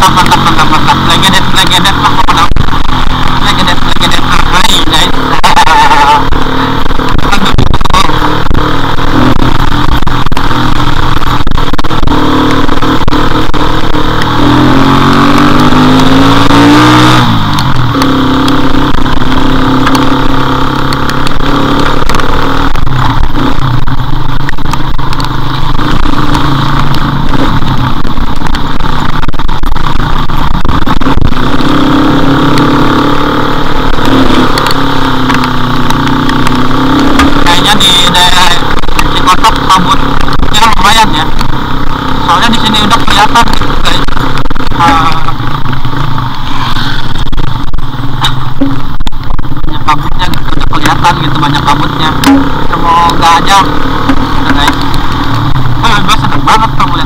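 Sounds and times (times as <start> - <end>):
motorcycle engine running: 0.0 - 57.0
wind and rain noise: 0.0 - 57.0.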